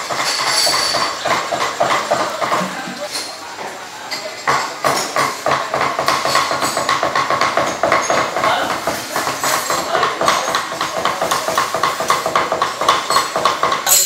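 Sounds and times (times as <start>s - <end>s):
cleavers chopping on wood blocks: 0.0s - 3.0s, 4.5s - 14.0s.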